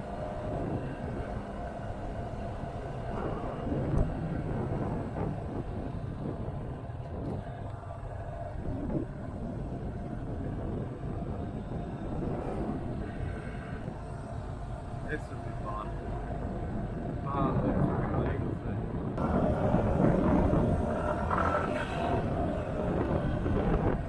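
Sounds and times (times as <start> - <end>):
motorcycle engine rumble: 0.0 - 24.0
wind rush: 0.0 - 24.0.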